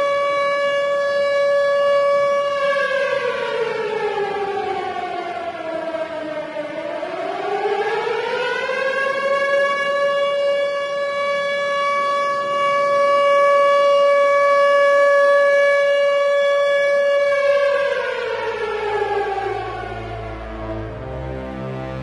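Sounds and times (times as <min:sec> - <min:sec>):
air-raid siren wailing: 0:00.0 - 0:22.0.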